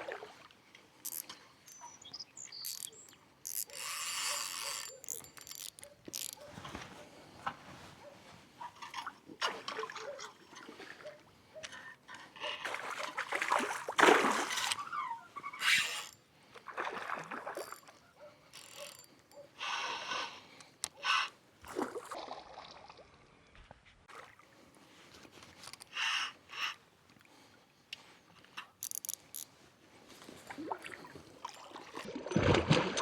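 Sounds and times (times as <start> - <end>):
water splashing and sloshing: 0.0 - 3.8, 4.5 - 19.4, 21.6 - 25.9, 29.5 - 33.0.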